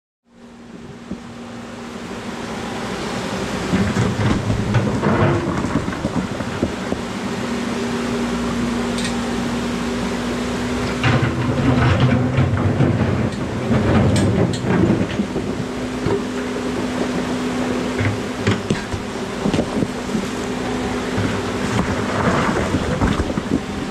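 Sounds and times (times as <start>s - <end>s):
excavator engine and hydraulics: 0.3s - 23.9s.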